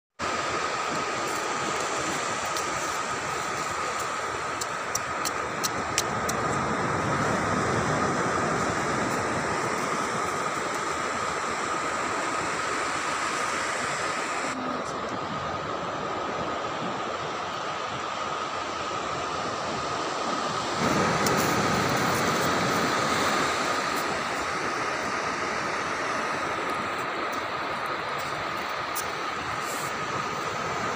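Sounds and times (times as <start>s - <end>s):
wind: 0.1s - 30.9s
faint steady whine: 0.2s - 30.9s
rushing outdoor noise: 0.2s - 30.9s
surf on a beach: 0.2s - 30.9s.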